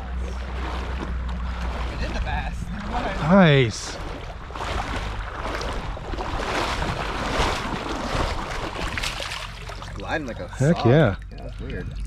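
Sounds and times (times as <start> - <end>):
creek water rushing: 0.0 - 10.6.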